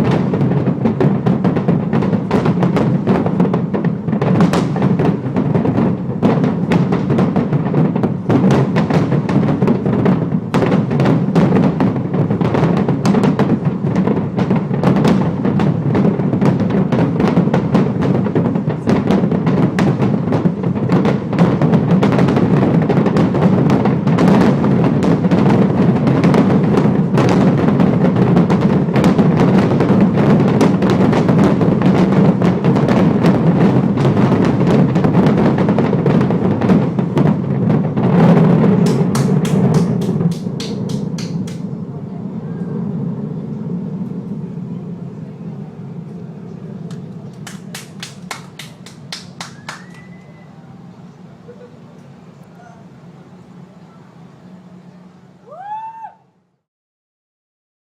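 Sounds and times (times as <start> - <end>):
fireworks bangs and crackles: 0.0 - 52.8.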